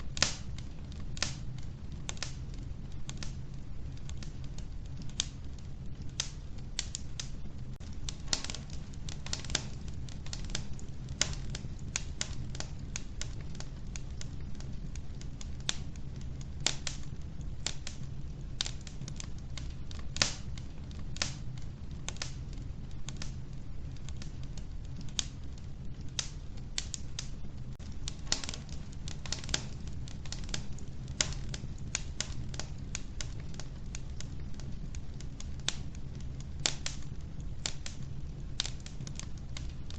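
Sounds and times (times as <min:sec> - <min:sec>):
logs crackling and popping: 0:00.0 - 0:39.9
low rumble of fire: 0:00.0 - 0:39.9.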